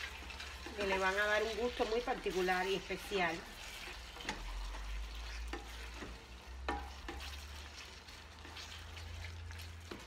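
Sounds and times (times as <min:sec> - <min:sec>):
meat sizzling in a pan: 0:00.0 - 0:10.0
spatula scraping and knocking pan: 0:00.0 - 0:10.0.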